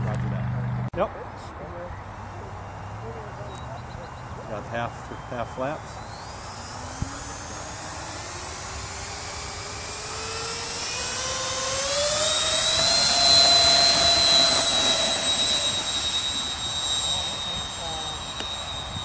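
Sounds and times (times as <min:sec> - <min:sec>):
electric ducted fans whining: 0:00.0 - 0:19.0.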